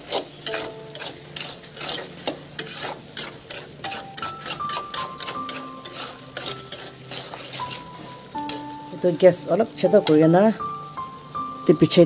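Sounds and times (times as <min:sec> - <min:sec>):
utensil scraping metal wok: 0:00.0 - 0:11.2.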